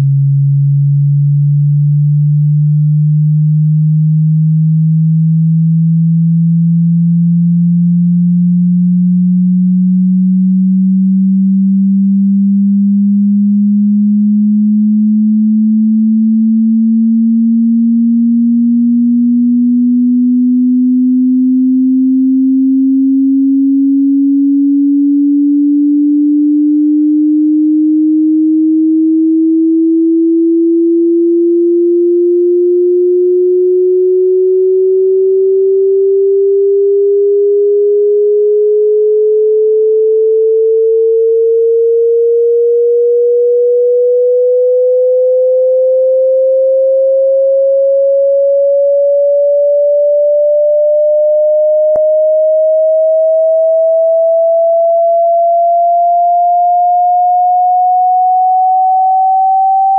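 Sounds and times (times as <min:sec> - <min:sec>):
sine tone sweeping upward: 0:00.0 - 0:59.9.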